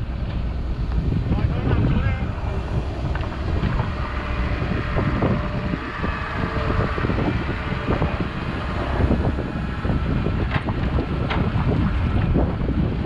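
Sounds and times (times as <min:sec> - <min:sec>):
excavator diesel engine: 0:00.0 - 0:13.0
wind on microphone: 0:00.0 - 0:13.0.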